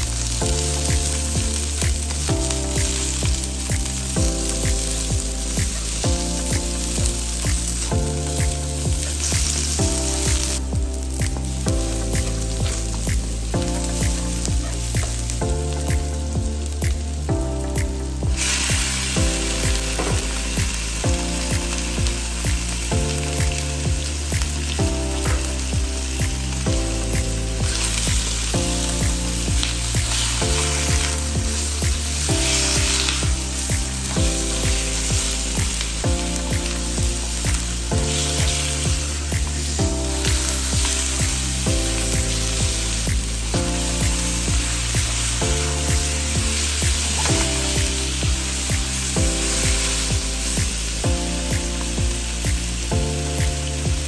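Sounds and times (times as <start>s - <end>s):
background music with steady beat: 0.0s - 54.0s
food sizzling in hot oil: 0.0s - 54.0s.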